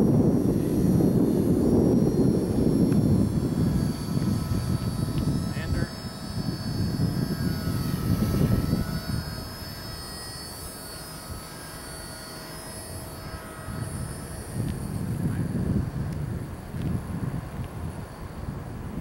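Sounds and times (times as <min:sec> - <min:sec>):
micro helicopter motor whine: 0:00.0 - 0:19.0
wind rumble on microphone: 0:00.0 - 0:19.0.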